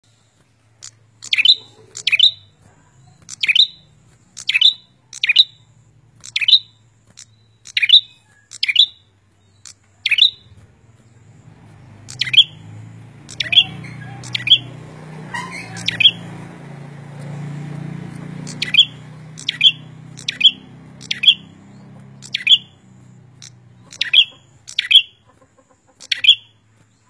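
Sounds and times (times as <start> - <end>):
songbird chirping: 0.0 - 27.0.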